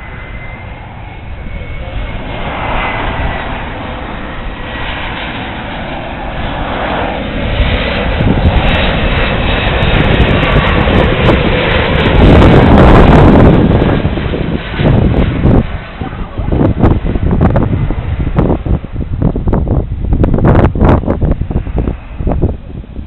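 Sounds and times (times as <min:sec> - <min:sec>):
jet engines rumbling with whine: 0:00.0 - 0:23.0
wind buffeting microphone: 0:00.0 - 0:23.0.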